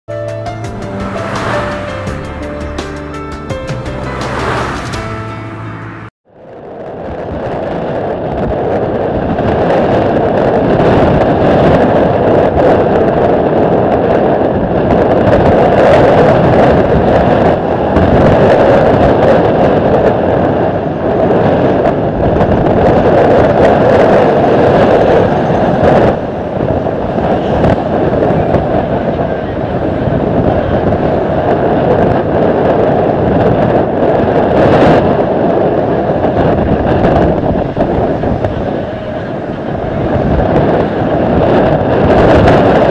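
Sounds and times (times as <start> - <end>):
wind buffeting microphone: 0.8 - 42.9.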